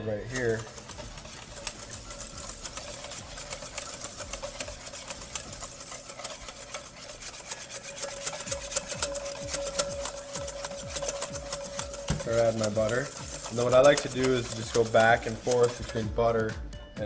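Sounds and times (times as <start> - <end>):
whisk scraping a metal bowl: 0.0 - 16.6.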